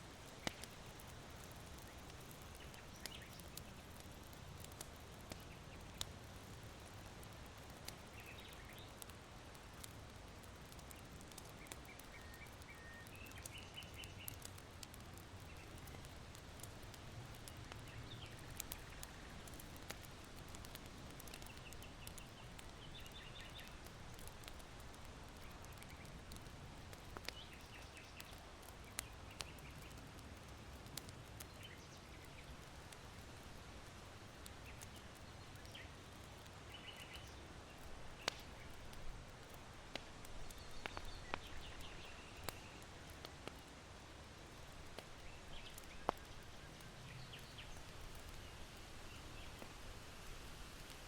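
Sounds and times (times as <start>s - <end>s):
charcoal fire popping: 0.0s - 51.0s
wind rustling in bamboo: 0.0s - 51.0s
small birds chirping: 0.2s - 24.6s, 25.3s - 30.0s, 31.0s - 33.2s, 34.4s - 43.6s, 44.5s - 49.8s.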